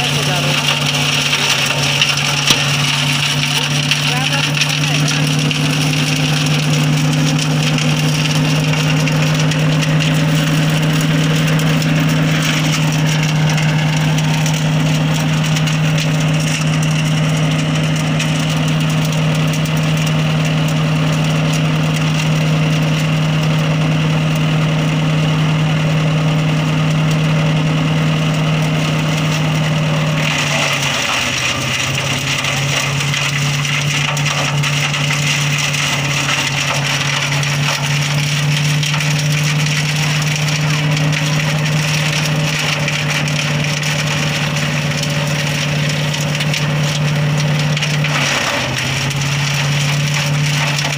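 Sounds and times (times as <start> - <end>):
branches being shredded: 0.0 - 50.9
wood chipper engine running: 0.0 - 50.9.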